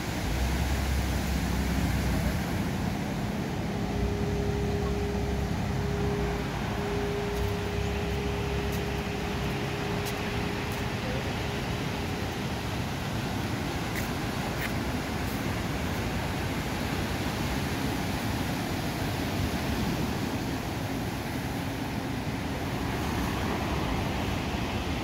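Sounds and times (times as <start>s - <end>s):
ocean surf breaking: 0.0s - 25.0s
steady hum: 0.0s - 25.0s.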